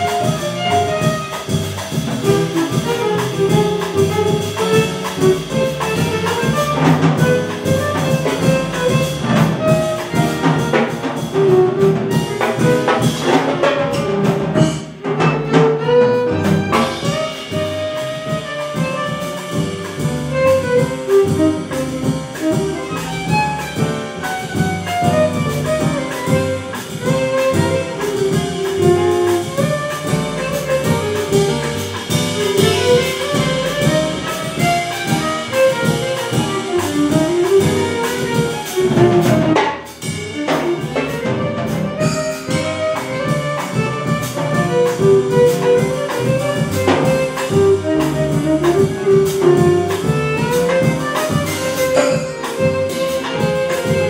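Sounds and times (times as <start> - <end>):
violin melody: 0.0 - 13.0, 15.3 - 39.6, 40.2 - 54.0
latin jazz band playing: 0.0 - 54.0.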